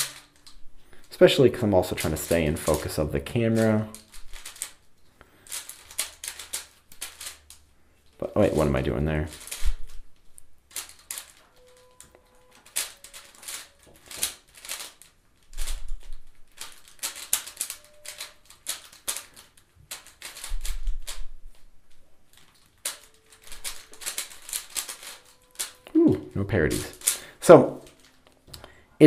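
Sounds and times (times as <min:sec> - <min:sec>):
plastic puzzle cube clicking: 0:01.8 - 0:07.6, 0:08.5 - 0:21.7, 0:22.3 - 0:26.0, 0:26.7 - 0:28.7.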